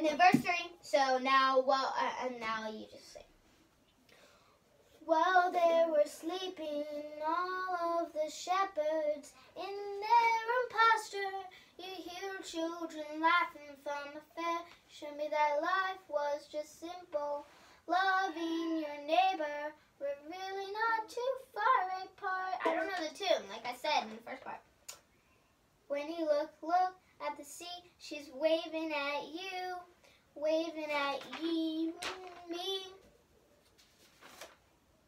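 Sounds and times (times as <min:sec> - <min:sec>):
girl singing unaccompanied: 0:00.0 - 0:03.4, 0:04.8 - 0:25.1, 0:25.8 - 0:33.1.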